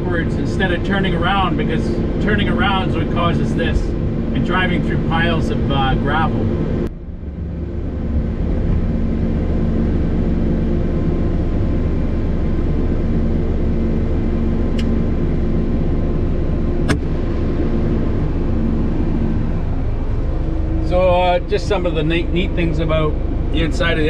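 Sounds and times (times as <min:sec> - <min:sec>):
diesel engine drone from cab: 0:00.0 - 0:24.0.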